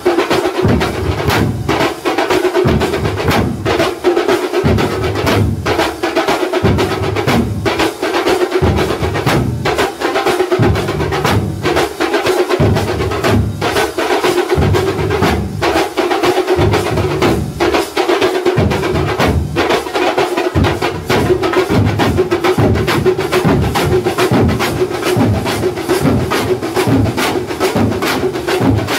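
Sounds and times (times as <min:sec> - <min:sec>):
cymbals: 0:00.0 - 0:28.9
drum troupe playing loudly: 0:00.0 - 0:28.9.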